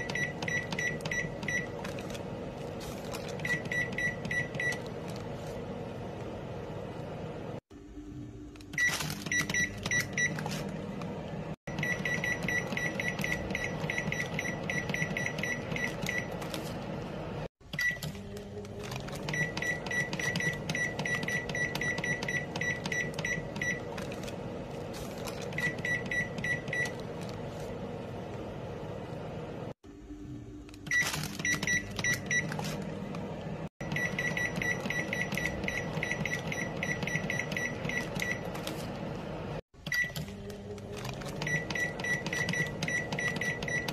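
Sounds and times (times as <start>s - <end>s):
microwave beeping: 0.0s - 43.9s.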